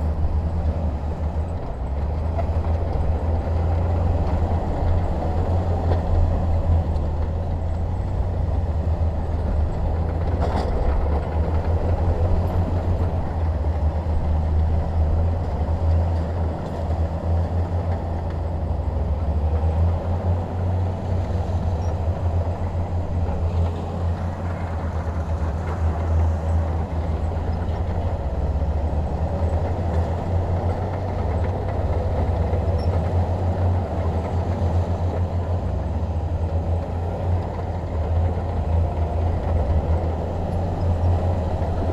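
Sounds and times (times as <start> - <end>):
diesel engine rumbling: 0.0 - 41.9.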